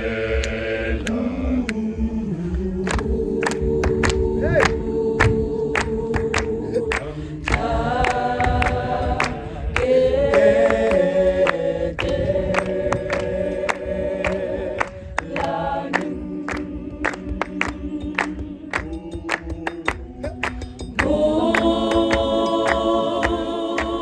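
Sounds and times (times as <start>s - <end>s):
a cappella choir singing: 0.0s - 24.0s
sharp hand claps: 2.8s - 24.0s.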